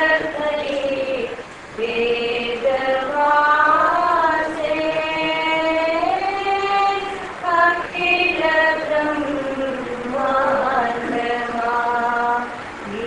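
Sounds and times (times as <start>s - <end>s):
chanting voices singing: 0.0s - 13.0s.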